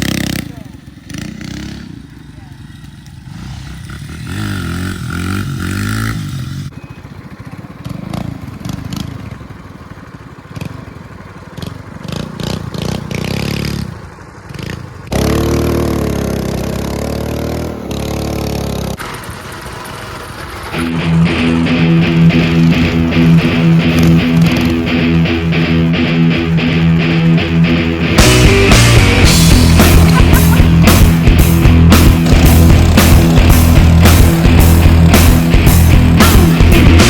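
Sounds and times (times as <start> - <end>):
mini bike engines revving: 0.0 - 37.0.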